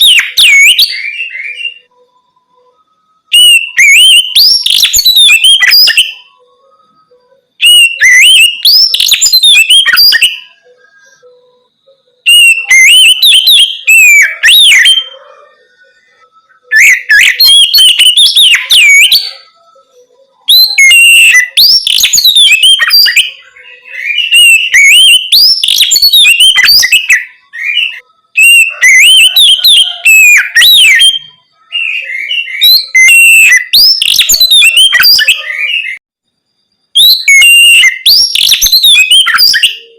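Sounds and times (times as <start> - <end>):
bird singing whistled phrases: 0.0 - 36.0, 36.9 - 39.9.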